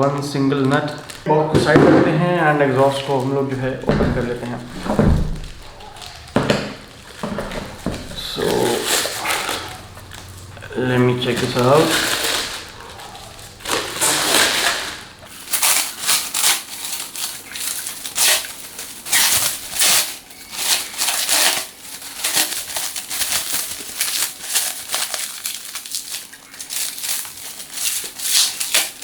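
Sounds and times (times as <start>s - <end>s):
packaging wrap crinkling: 0.0s - 29.0s.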